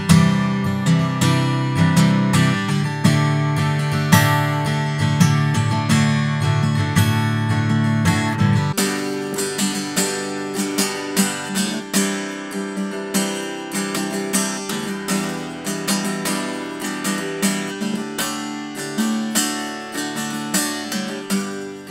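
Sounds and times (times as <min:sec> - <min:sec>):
acoustic guitar strummed chords: 0:00.0 - 0:21.9.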